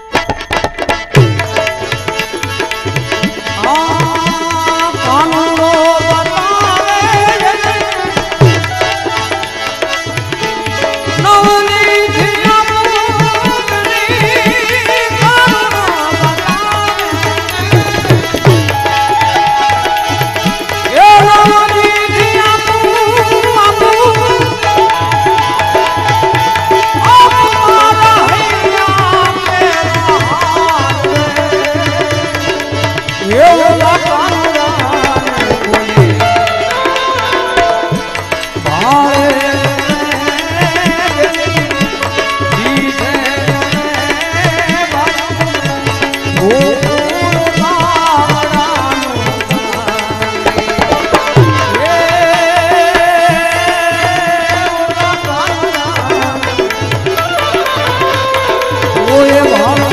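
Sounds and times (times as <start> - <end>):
harmonium melody: 0.0 - 59.9
tabla strokes: 0.0 - 59.9.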